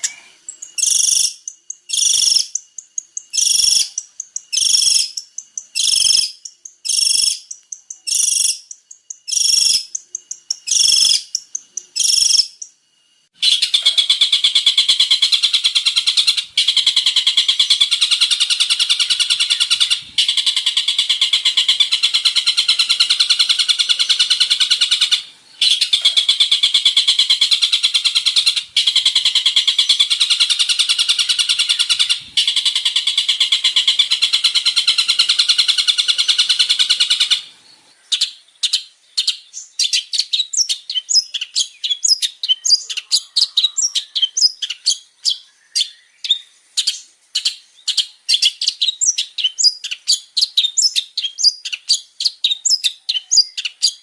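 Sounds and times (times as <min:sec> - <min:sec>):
bird chattering trill and chirps: 0:00.0 - 0:12.8, 0:13.4 - 0:54.0.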